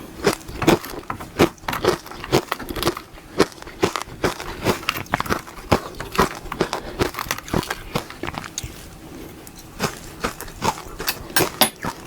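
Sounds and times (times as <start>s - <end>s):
ice being chewed crunching: 0.1s - 12.0s.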